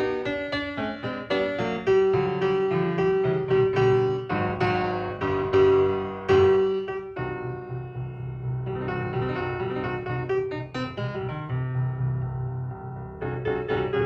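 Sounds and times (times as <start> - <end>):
solo piano tune: 0.0 - 14.0.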